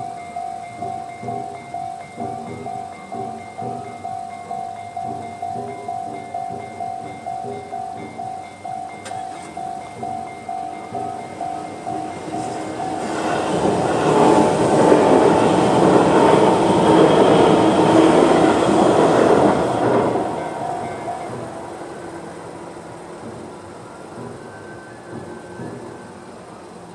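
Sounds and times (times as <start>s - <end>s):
electric train passing: 0.0s - 26.9s
level crossing warning bell: 0.0s - 26.9s.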